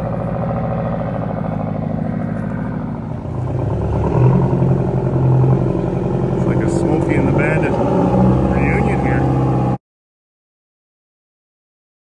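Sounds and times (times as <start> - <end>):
diesel truck engine running: 0.0 - 9.8.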